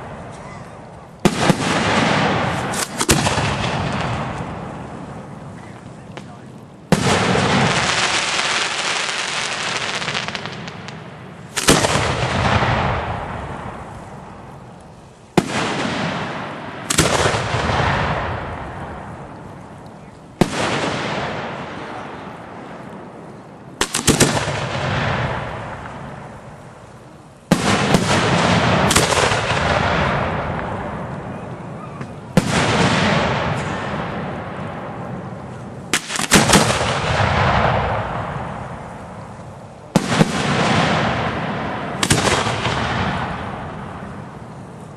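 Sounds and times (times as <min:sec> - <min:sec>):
fireworks bangs with crackle: 0:00.0 - 0:44.9.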